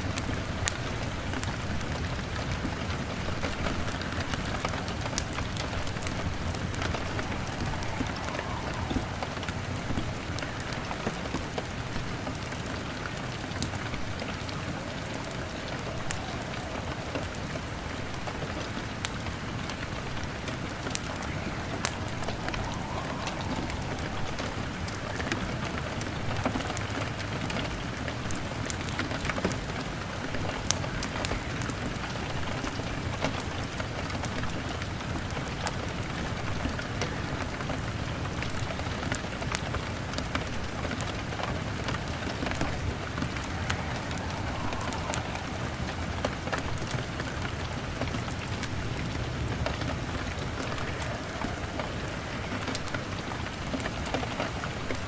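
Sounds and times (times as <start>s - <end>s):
fire crackling and popping: 0.0s - 55.0s
rain pattering on window: 0.0s - 55.0s.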